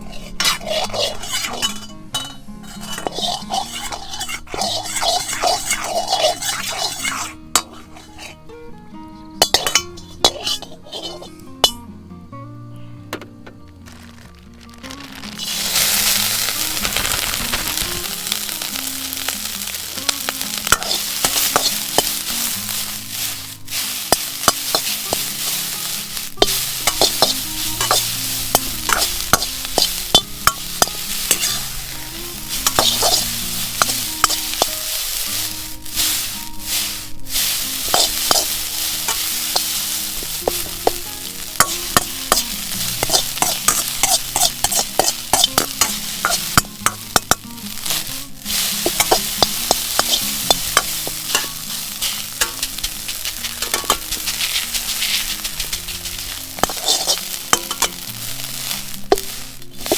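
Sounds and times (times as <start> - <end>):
fried rice sizzling in a wok: 0.0 - 8.5, 9.3 - 11.9, 13.8 - 59.9
spatula scraping against wok: 0.0 - 11.9, 13.9 - 59.9.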